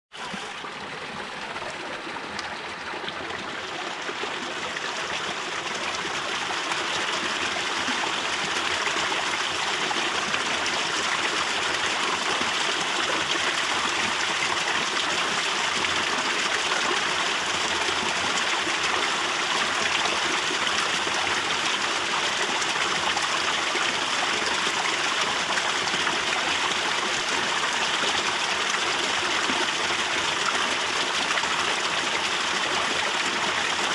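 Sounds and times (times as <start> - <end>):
waterfall splashing trickle: 0.2 - 33.9.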